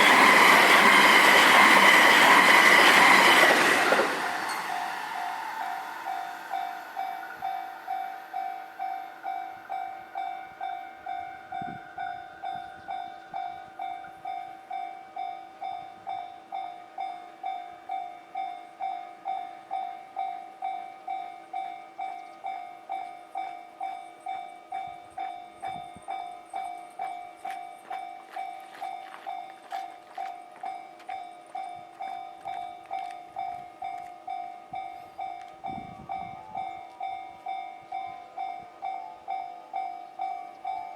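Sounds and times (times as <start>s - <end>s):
clicking from train tracks: 0.0s - 40.9s
level-crossing warning bell: 0.0s - 40.9s.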